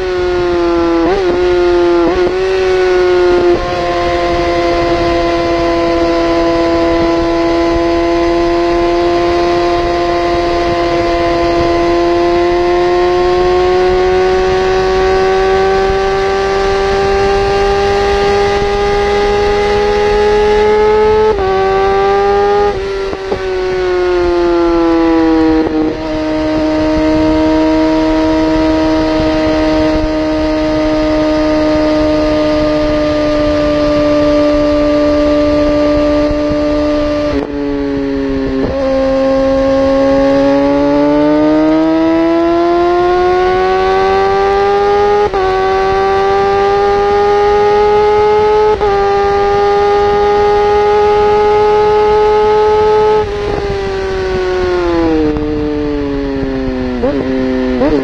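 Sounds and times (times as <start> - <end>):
motorcycle engine at high revs: 0.0 - 58.0
rushing wind noise: 0.0 - 58.0.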